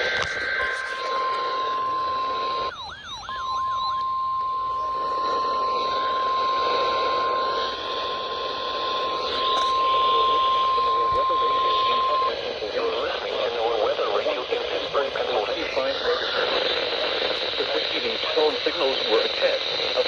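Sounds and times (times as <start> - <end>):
radio static: 0.0 - 20.0
steady alarm tone: 0.0 - 20.0.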